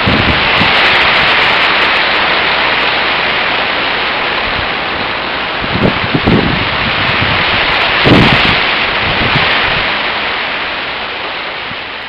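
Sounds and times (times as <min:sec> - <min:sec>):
wind and rain rushing: 0:00.0 - 0:12.0
wind buffeting microphone: 0:00.0 - 0:12.0.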